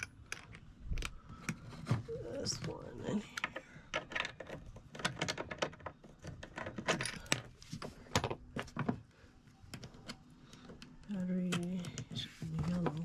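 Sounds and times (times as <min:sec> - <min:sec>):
small parts clicking and rattling: 0:00.0 - 0:13.0.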